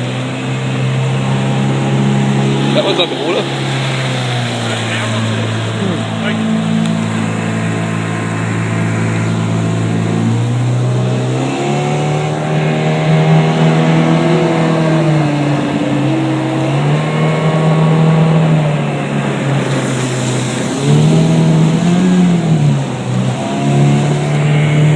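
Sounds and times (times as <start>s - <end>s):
motor engine revving: 0.0s - 24.9s.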